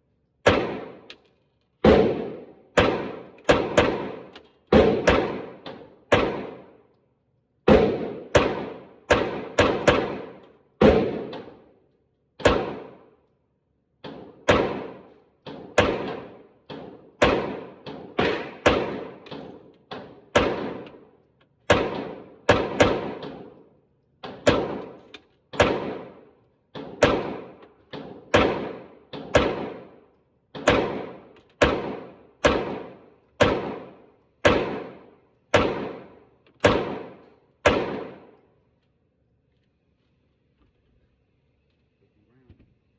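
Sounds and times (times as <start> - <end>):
pistol shots with echo: 0.4 - 1.1, 1.8 - 6.8, 7.7 - 11.8, 12.4 - 13.2, 14.0 - 38.5.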